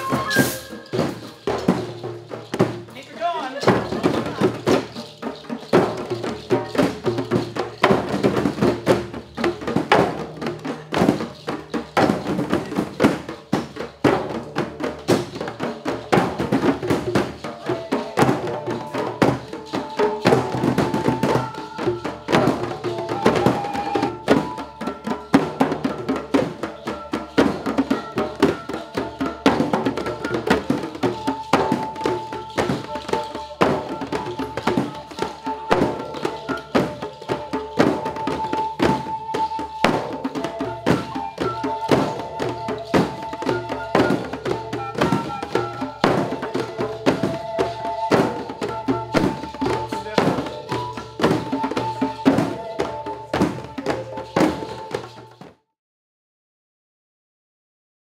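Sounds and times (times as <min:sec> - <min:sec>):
group playing hand drums: 0:00.0 - 0:55.6.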